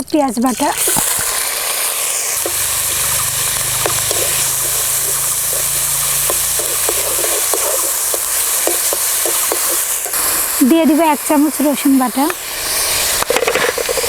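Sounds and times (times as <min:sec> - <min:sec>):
onion paste sizzling in oil: 0:00.0 - 0:14.0.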